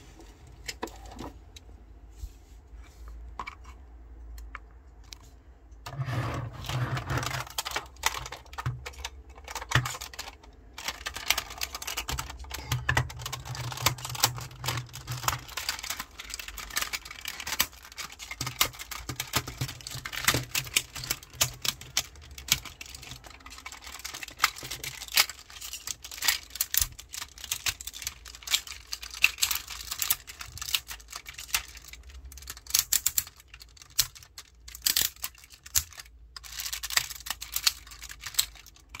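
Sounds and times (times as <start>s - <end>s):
plastic toy parts clicking: 6.6s - 39.0s.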